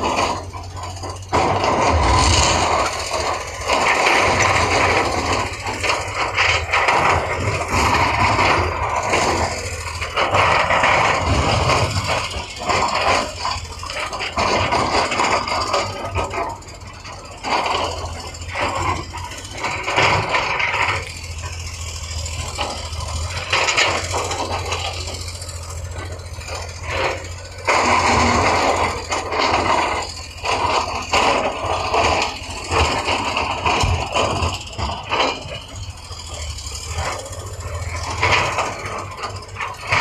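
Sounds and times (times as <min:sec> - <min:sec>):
diesel machinery engine hum: 0:00.0 - 0:40.0
metal clanking and scraping: 0:00.0 - 0:40.0.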